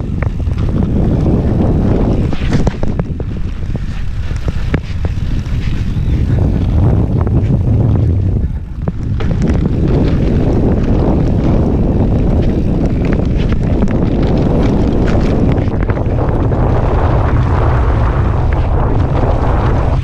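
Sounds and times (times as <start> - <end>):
bike rattling over rough trail: 0.0 - 20.0
wind buffeting microphone: 0.0 - 20.0.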